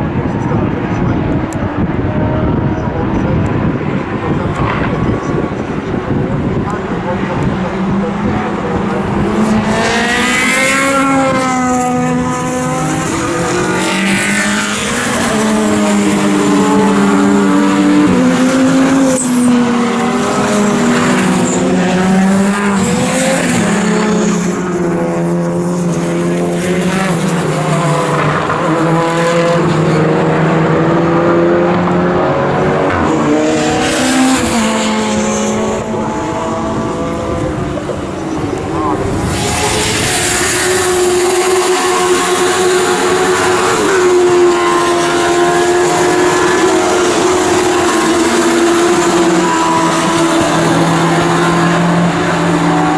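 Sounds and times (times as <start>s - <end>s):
racing cars passing at speed: 0.0s - 52.9s.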